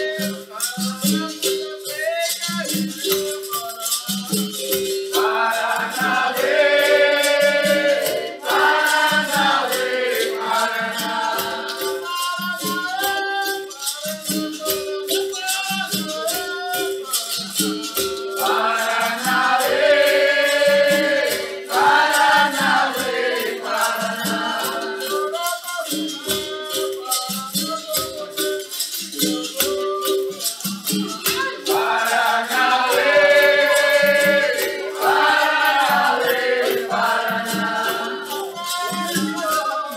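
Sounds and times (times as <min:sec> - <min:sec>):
berimbau rhythm: 0:00.0 - 0:39.9
people singing: 0:00.0 - 0:39.9
shaker rattles: 0:00.0 - 0:39.9.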